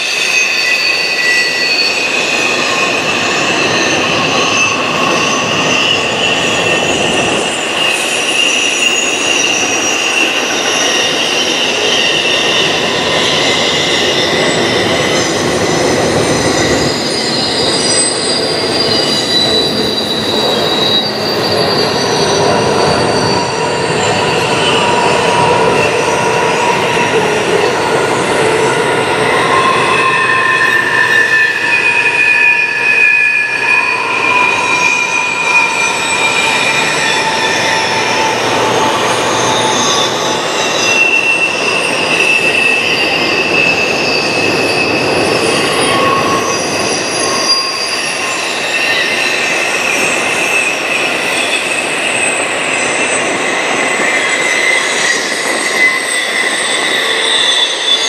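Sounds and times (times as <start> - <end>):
freight train rolling past: 0.0 - 58.0
train wheels squealing: 0.0 - 58.0.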